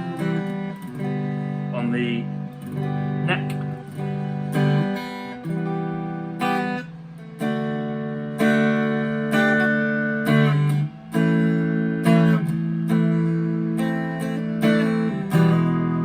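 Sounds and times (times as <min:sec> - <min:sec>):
clean electric guitar chords: 0:00.0 - 0:16.0.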